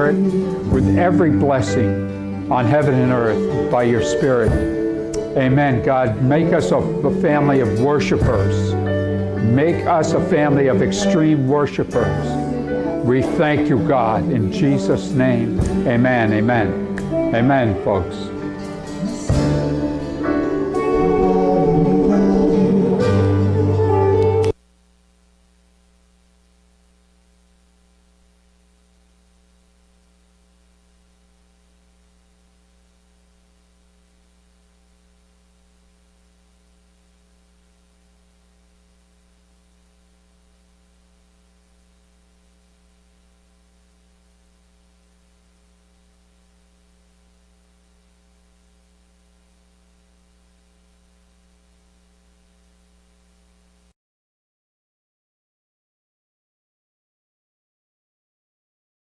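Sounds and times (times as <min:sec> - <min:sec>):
electrical mains hum: 0:00.0 - 0:54.0
thin high whine: 0:00.0 - 0:54.0.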